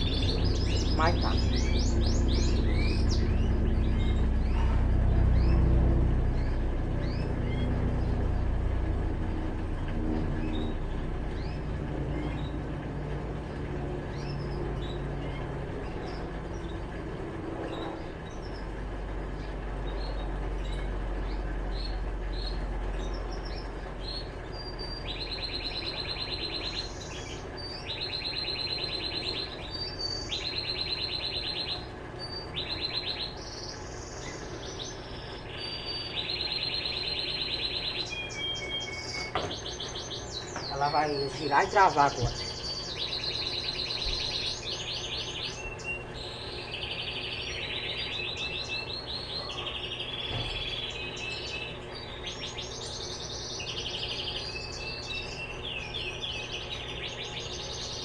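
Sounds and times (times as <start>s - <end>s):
bird singing high trills: 0.0s - 8.6s, 10.2s - 12.6s, 17.6s - 58.0s
birds chirping: 0.0s - 58.0s
washing machine motor humming: 0.0s - 58.0s.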